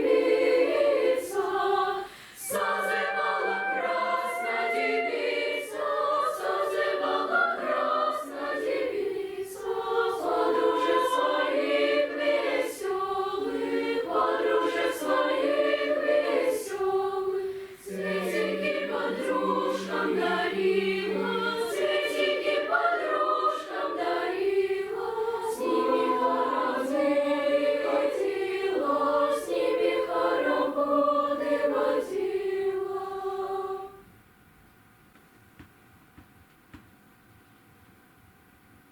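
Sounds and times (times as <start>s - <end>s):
children's choir singing: 0.0s - 34.0s.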